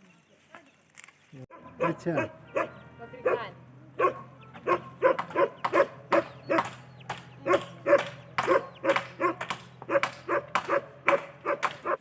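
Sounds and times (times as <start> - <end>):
dog barking: 1.5 - 6.8, 7.4 - 12.0.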